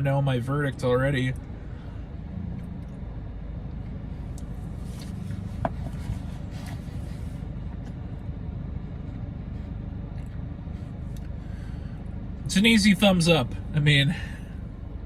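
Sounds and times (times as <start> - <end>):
idling vehicle rumble: 0.0 - 15.0.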